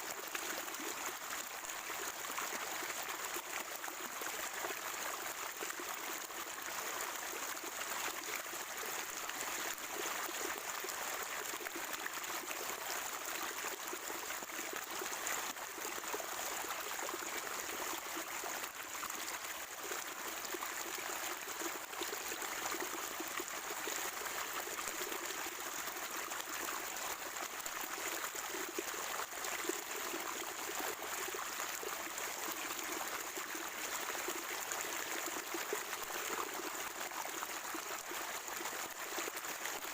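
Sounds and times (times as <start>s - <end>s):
spring water trickling and gurgling: 0.0s - 39.9s.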